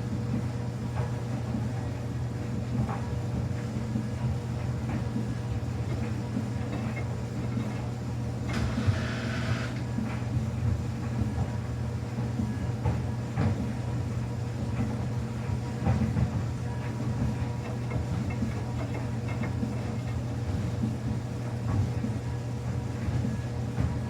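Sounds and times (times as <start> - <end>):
washing machine motor humming: 2.2 - 24.0.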